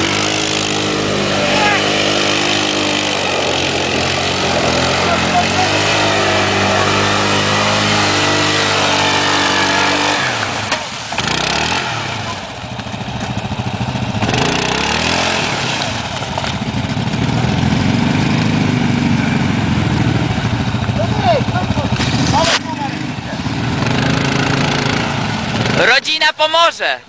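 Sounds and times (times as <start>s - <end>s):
wheels spinning in mud: 0.0s - 25.8s
atv engine revving: 0.0s - 26.2s.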